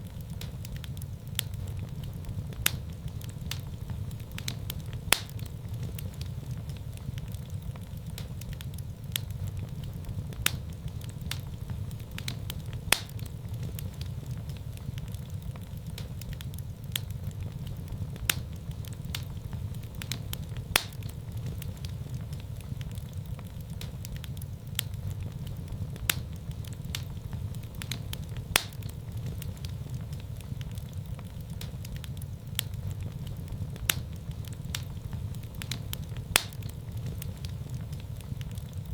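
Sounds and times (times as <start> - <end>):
burning logs popping and crackling: 0.0 - 38.9
low rumble of flames: 0.0 - 38.9.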